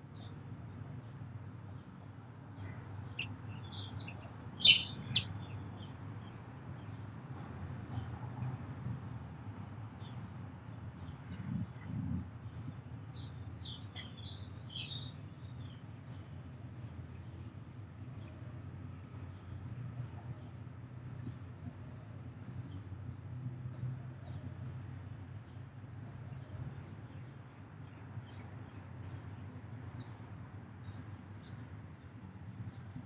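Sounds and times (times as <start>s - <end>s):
sparrows chirping: 0.1s - 8.1s, 10.9s - 33.0s.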